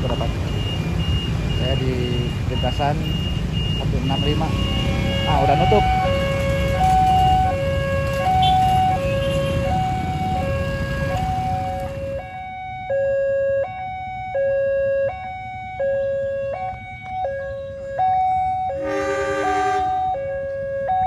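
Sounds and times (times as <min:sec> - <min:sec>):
level crossing two-tone alarm: 0:00.0 - 0:21.0.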